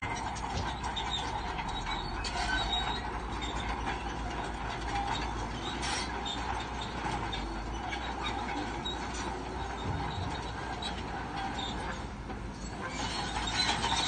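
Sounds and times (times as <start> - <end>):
diesel engine running: 0.0 - 14.0
steel tracks squealing and clanking: 0.0 - 14.0.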